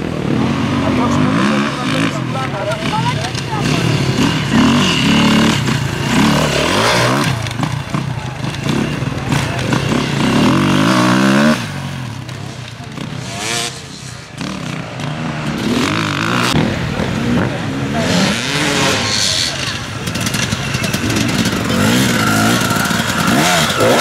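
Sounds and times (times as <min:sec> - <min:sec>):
dirt bikes revving past: 0:00.0 - 0:24.0.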